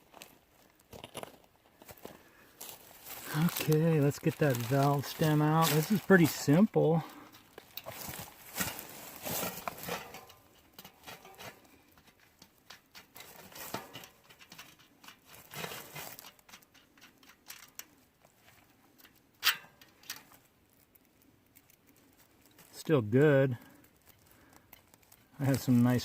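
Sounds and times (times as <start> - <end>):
light clicks and scrapes: 2.9 - 26.0.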